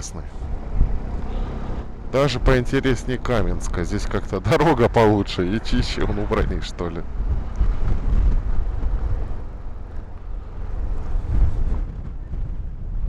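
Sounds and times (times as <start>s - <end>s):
car driving rumble: 0.0s - 13.0s
road noise: 0.0s - 13.0s
wind buffeting microphone: 0.3s - 13.0s.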